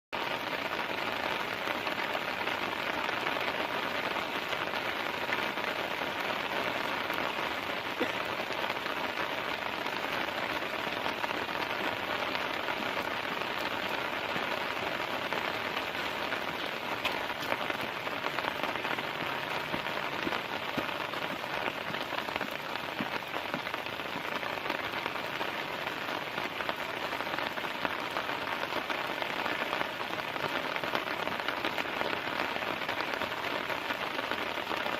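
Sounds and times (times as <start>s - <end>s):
heavy rain on a tent: 0.1s - 34.9s.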